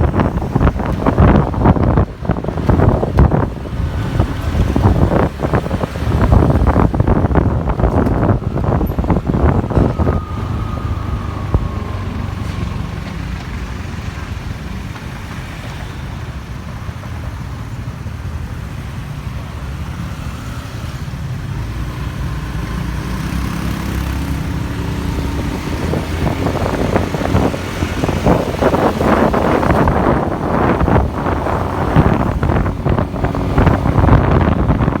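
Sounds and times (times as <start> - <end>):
wind buffeting microphone: 0.0 - 15.6, 21.9 - 35.0
road traffic: 0.0 - 35.0.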